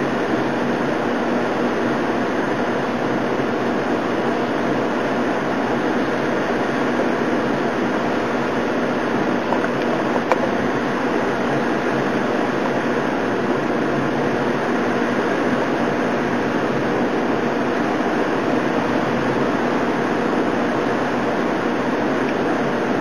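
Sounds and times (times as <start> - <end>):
pouring rain roar: 0.0 - 23.0.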